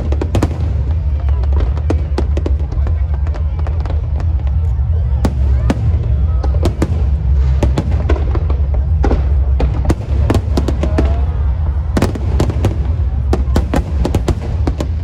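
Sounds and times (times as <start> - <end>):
fireworks and firecrackers banging: 0.0 - 15.0
steady low rumble: 0.0 - 15.0.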